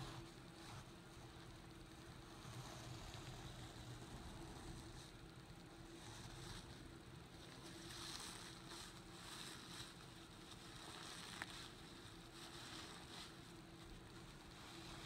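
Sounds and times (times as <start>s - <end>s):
scrub pad rustling on carpet: 0.0s - 15.0s.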